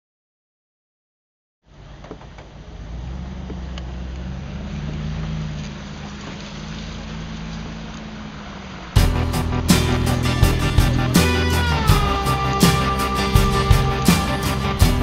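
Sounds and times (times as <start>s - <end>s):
vehicle engine humming: 1.6s - 15.0s
traffic passing on wet roads: 1.8s - 15.0s.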